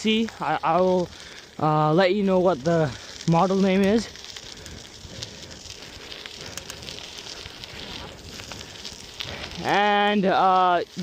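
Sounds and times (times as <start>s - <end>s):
bicycle tyres rolling on path: 0.0s - 11.0s.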